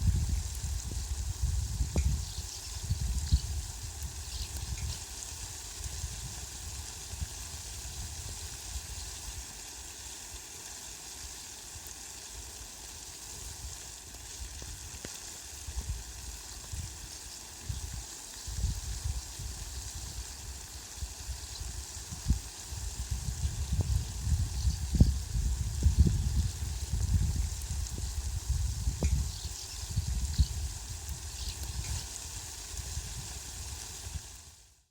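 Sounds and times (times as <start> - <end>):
heavy rain on leafy plants: 0.0 - 34.9.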